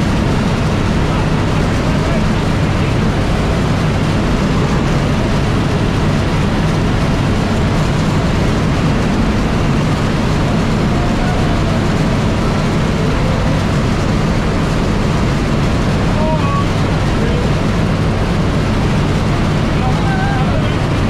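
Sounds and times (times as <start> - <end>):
plane engines and propellers droning: 0.0 - 21.0
rushing air: 0.0 - 21.0.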